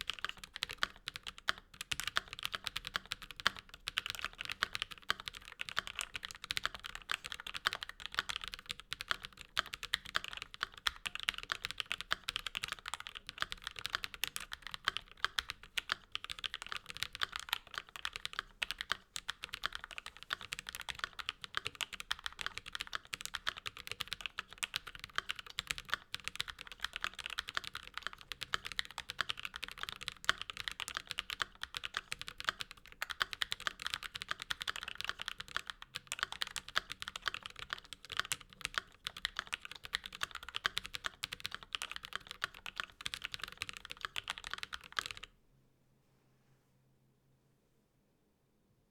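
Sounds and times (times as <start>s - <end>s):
fast mechanical keyboard typing: 0.0s - 45.3s.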